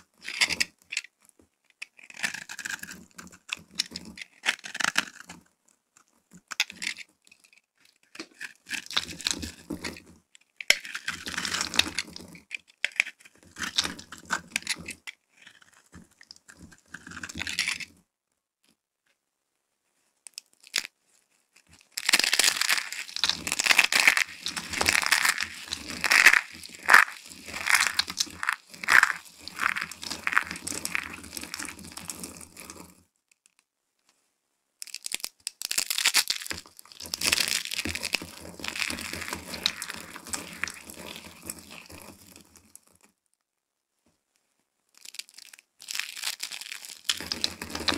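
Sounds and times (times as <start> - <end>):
dry soap crackling and crunching: 0.0 - 5.4, 6.0 - 18.0, 20.2 - 33.7, 34.8 - 43.2, 44.8 - 47.9.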